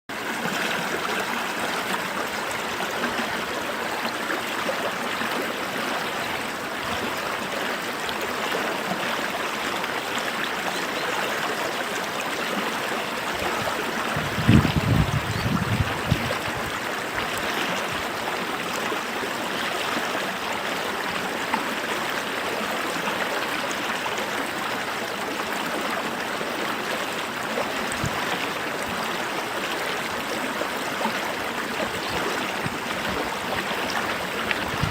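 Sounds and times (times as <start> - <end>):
creek water babbling: 0.1 - 34.9.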